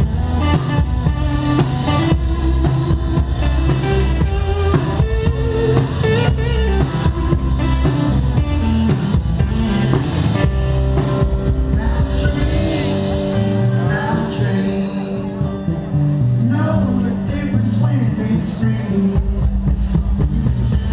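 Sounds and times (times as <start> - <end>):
person singing: 0.0 - 8.9, 11.6 - 20.9
live rock band playing: 0.0 - 20.9.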